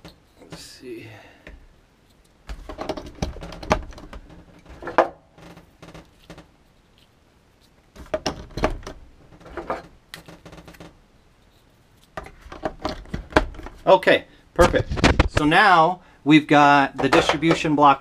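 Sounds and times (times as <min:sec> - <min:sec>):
cables rustling and knocking: 0:00.0 - 0:14.0, 0:14.6 - 0:15.6, 0:16.9 - 0:17.9.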